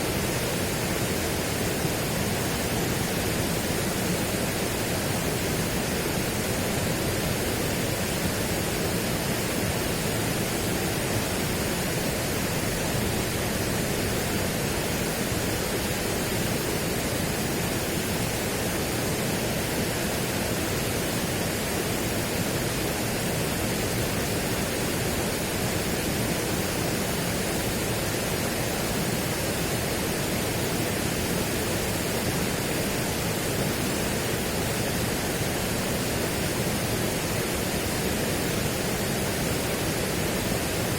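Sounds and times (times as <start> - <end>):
steady rushing noise: 0.0 - 40.9.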